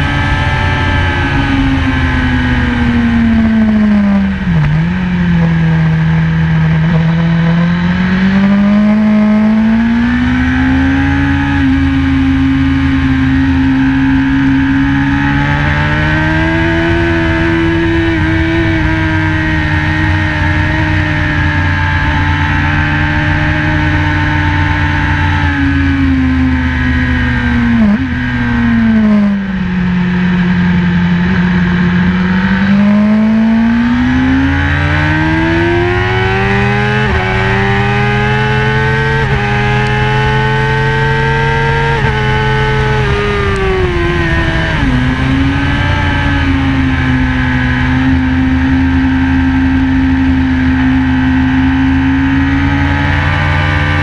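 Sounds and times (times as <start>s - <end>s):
motorcycle engine revving high: 0.0s - 54.0s.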